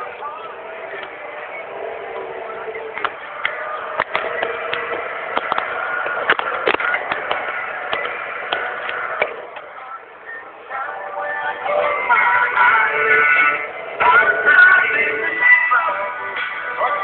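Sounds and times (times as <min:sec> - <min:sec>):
bulldozer engine drone: 0:00.0 - 0:17.0.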